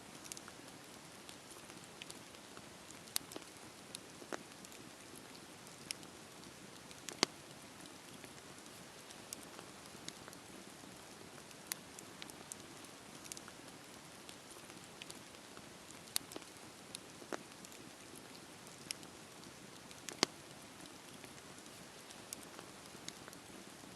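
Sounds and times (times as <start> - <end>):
wood crackling and popping: 0.0 - 23.9
campfire hissing: 0.1 - 23.9.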